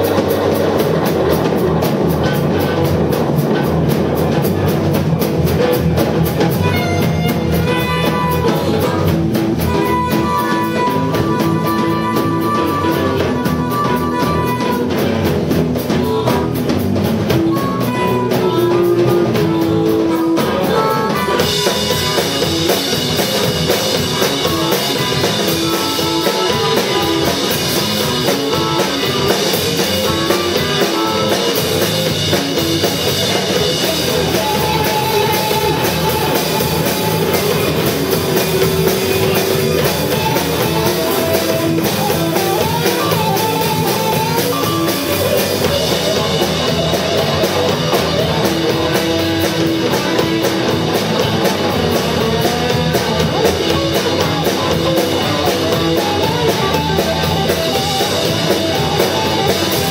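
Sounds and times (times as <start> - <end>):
drum kit beat: 0.0 - 59.9
electric guitar: 0.0 - 59.9.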